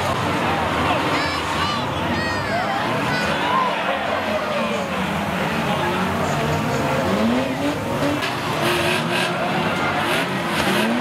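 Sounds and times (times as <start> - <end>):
racing car engines revving: 0.0 - 11.0
tyres skidding and squealing: 0.0 - 11.0.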